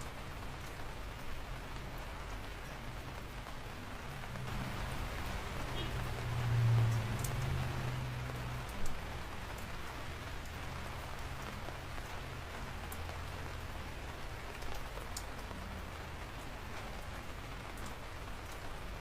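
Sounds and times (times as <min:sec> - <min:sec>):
rain falling: 0:00.0 - 0:19.0
raindrop ticks: 0:00.0 - 0:19.0.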